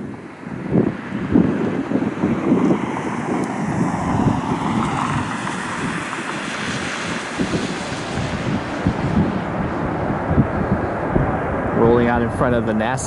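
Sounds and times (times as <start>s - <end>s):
jet engines rushing: 0.0s - 13.0s
wind buffeting microphone: 0.0s - 13.0s.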